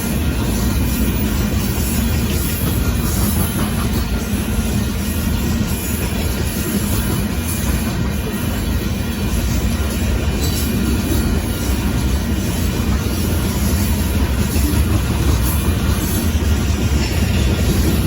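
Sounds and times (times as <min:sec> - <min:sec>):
wheel clatter on rails: 0:00.0 - 0:18.0.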